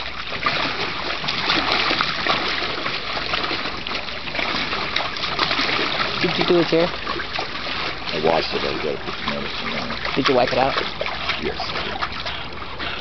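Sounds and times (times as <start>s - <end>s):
dog splashing in water: 0.0s - 13.0s.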